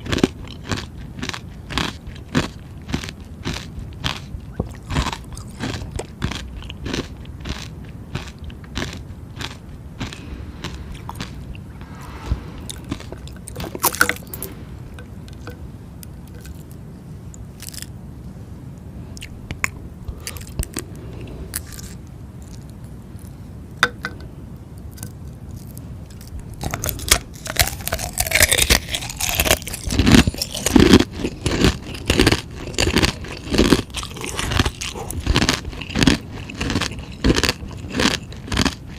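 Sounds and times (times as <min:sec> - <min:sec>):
crunching ice chewing: 0:00.0 - 0:11.7, 0:12.7 - 0:14.6, 0:17.6 - 0:17.9, 0:19.2 - 0:23.3, 0:24.9 - 0:38.9.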